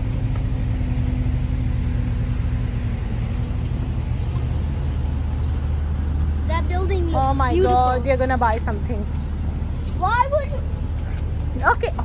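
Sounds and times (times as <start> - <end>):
machinery rumble with hum: 0.0 - 12.0.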